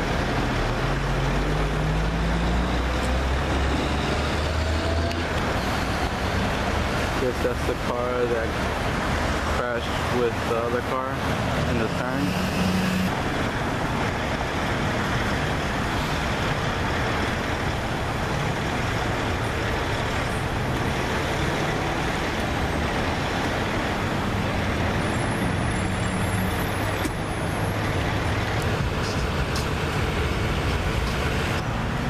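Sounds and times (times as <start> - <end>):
road traffic with passing vehicles: 0.0 - 32.0.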